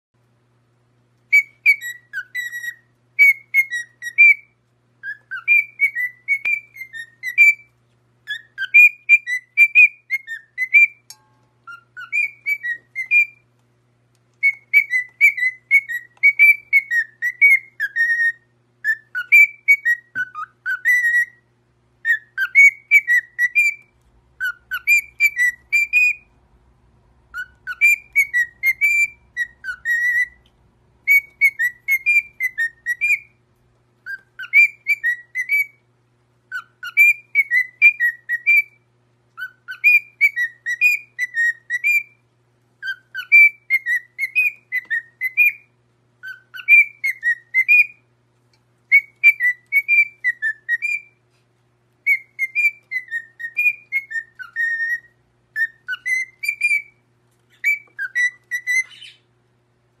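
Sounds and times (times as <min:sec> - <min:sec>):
cockatiel whistling a tune: 0:01.3 - 0:13.5, 0:14.4 - 0:26.5, 0:27.3 - 0:33.4, 0:34.0 - 0:35.9, 0:36.5 - 0:42.2, 0:42.8 - 0:48.1, 0:48.9 - 0:51.2, 0:52.0 - 0:59.3.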